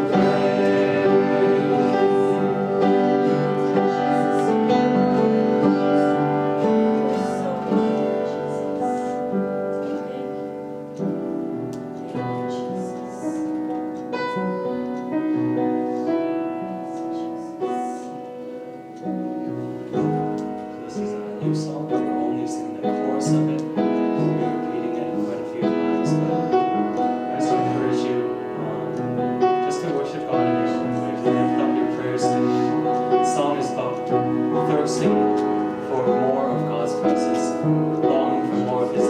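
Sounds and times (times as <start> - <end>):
slow worship piano music: 0.0 - 39.0.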